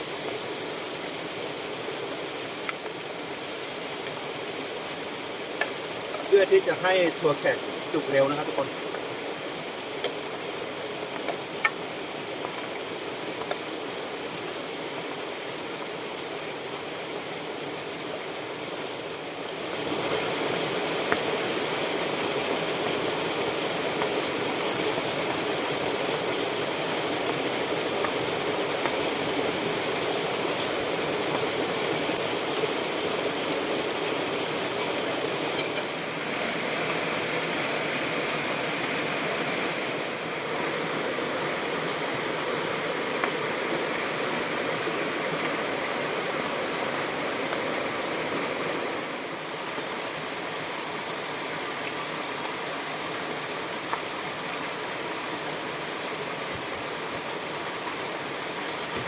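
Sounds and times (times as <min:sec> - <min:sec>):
stream rushing: 0:00.0 - 0:13.8, 0:14.7 - 0:59.0.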